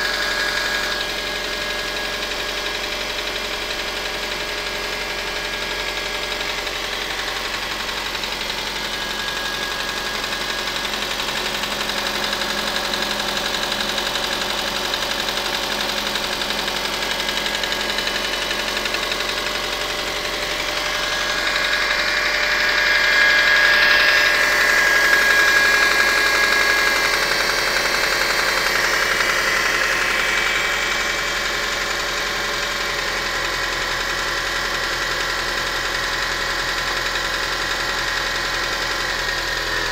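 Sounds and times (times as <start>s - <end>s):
engine running with rapid knock: 0.0s - 39.9s.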